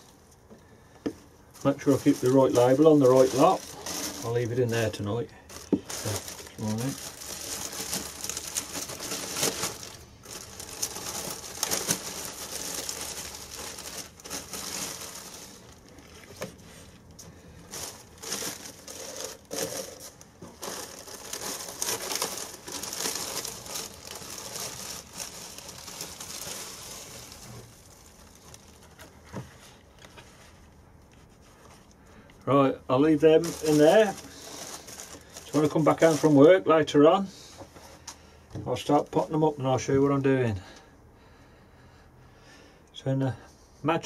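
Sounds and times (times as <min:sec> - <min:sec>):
plastic bags crinkling: 0:01.4 - 0:38.2.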